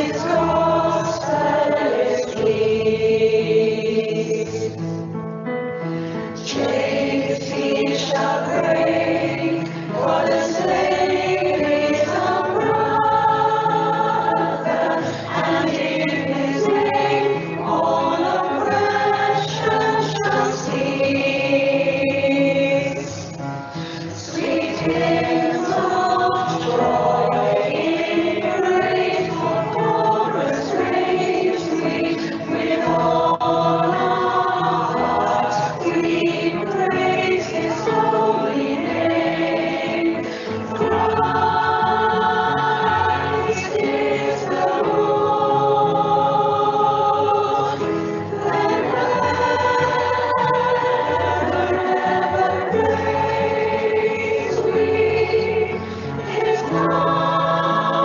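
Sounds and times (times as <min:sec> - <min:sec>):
choir singing in parts: 0:00.0 - 0:05.0, 0:06.3 - 0:58.0.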